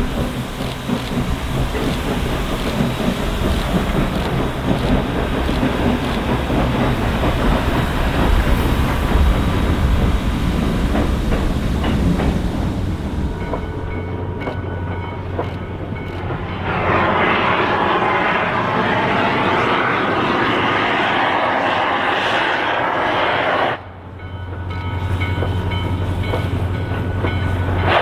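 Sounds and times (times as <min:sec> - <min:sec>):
low rumble: 0:00.0 - 0:24.2
rushing noise: 0:00.0 - 0:24.2, 0:25.0 - 0:28.0
steady tones: 0:00.0 - 0:28.0
train wheels clicking over rail joints: 0:00.0 - 0:28.0.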